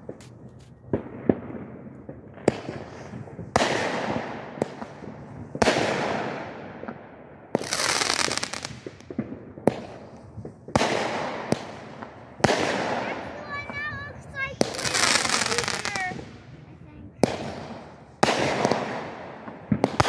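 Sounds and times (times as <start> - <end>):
dense firework crackling: 0.0 - 20.0
fireworks bursting with echo: 0.0 - 20.0
sharp firework pops: 0.0 - 20.0.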